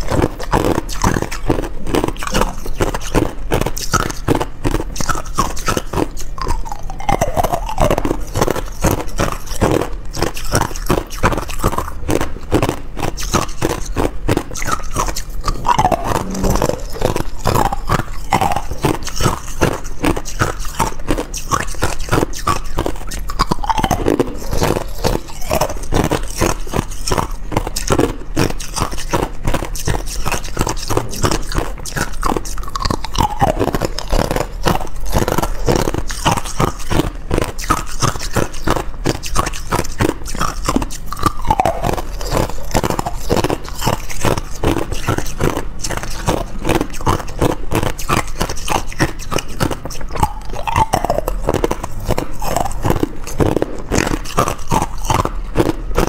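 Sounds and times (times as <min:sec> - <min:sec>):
ice cubes crunched by teeth: 0:00.0 - 0:56.0.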